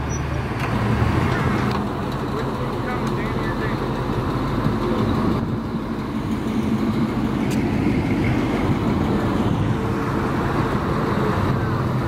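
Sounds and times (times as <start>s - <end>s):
pickup truck engine driving past: 0.0s - 12.0s.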